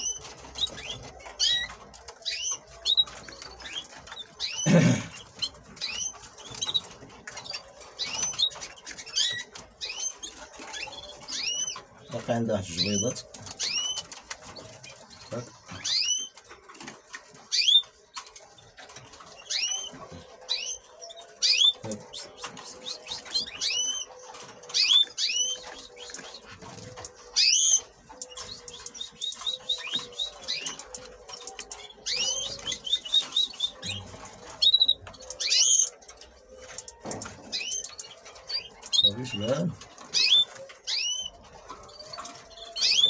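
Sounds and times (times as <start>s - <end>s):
canaries chirping: 0.0s - 43.0s.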